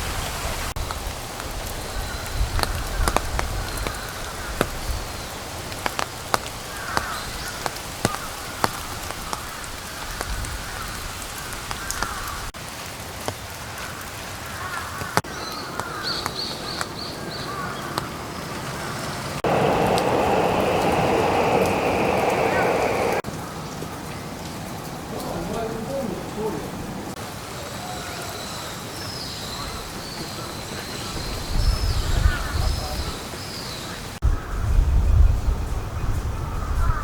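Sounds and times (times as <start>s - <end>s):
raindrops tapping sharply: 0.0s - 33.5s
steady rain falling: 0.0s - 34.2s.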